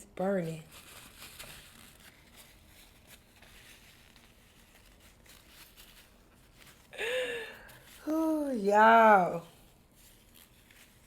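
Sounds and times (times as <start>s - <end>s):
soft rustles: 0.3s - 7.0s, 7.6s - 11.0s.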